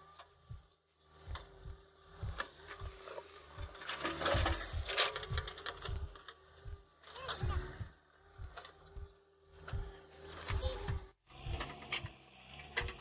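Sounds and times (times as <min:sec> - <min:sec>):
diesel engines thudding: 0:00.0 - 0:13.0.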